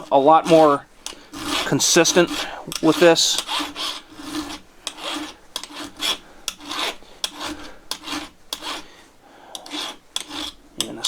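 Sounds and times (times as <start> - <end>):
file clicks: 0.0 - 8.9, 9.5 - 11.0
file rasping on steel: 0.0 - 11.0.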